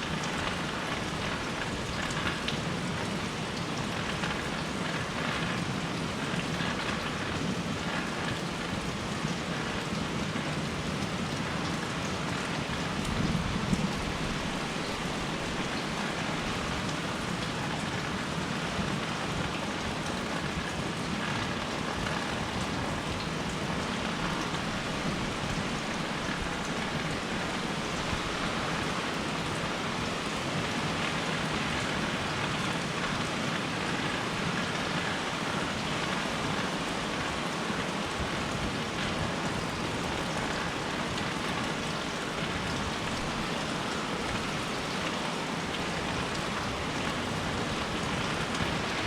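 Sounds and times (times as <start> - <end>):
rain pattering on surfaces: 0.0 - 49.0.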